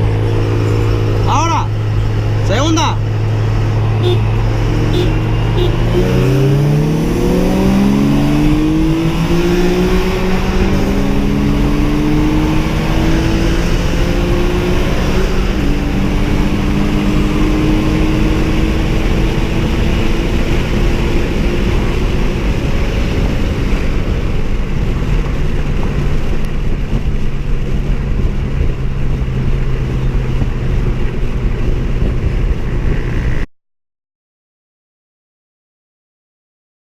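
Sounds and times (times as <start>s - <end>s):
car engine accelerating hard: 0.0s - 33.5s.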